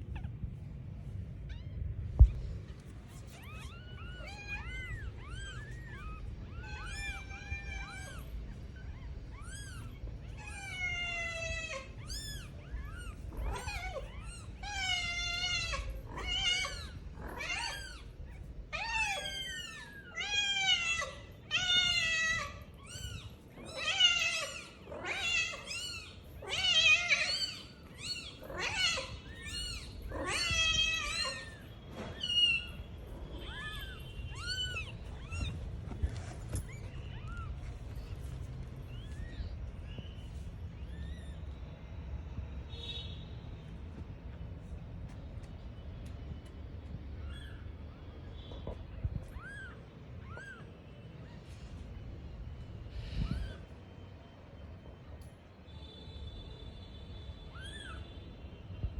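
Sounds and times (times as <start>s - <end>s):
kittens meowing: 0.0s - 41.6s, 46.9s - 54.4s, 57.5s - 58.1s.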